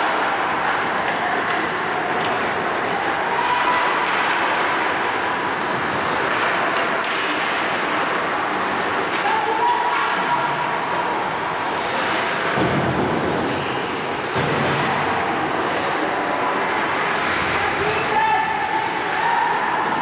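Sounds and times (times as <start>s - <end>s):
ice rink noise: 0.0s - 20.0s.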